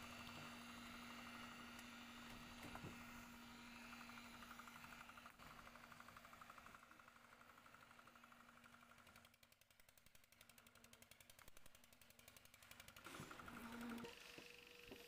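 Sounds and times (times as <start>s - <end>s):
concrete mixers running: 0.0s - 9.4s, 10.4s - 15.0s.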